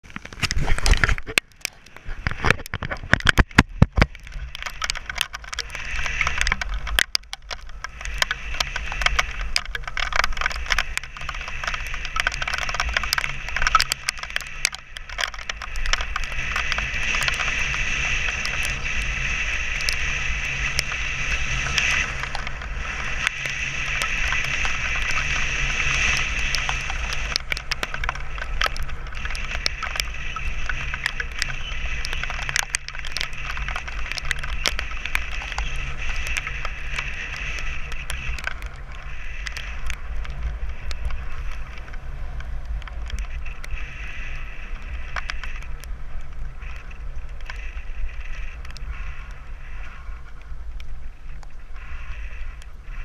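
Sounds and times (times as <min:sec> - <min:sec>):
hailstones striking hard surfaces: 0:00.1 - 0:50.0.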